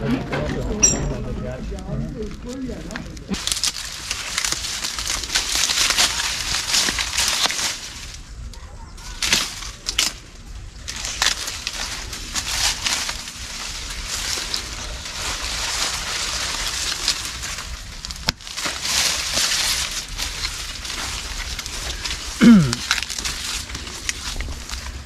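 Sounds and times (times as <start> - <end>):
dry leaves rustling and crackling: 0.0 - 25.0
cane stalk snapping: 2.9 - 25.0.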